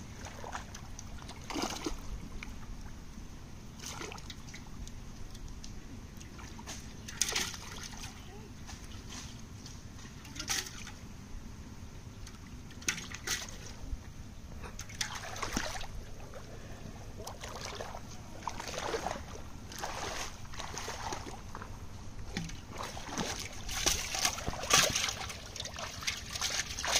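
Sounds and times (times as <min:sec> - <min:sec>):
water sloshing and splashing: 0:00.0 - 0:11.1, 0:12.1 - 0:26.9.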